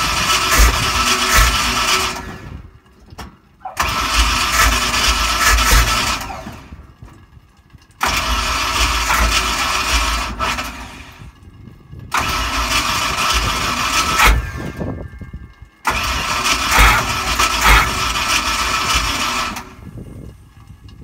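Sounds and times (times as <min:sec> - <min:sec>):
engine cranking on starter: 0:00.0 - 0:21.0.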